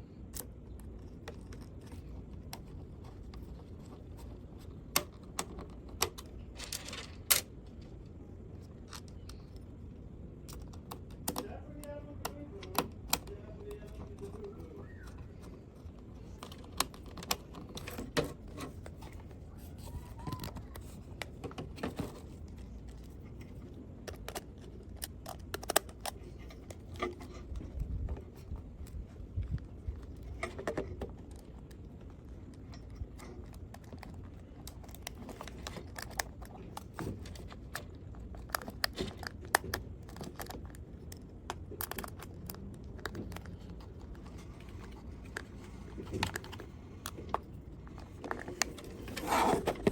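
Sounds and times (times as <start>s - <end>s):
low background hum: 0.0s - 49.9s.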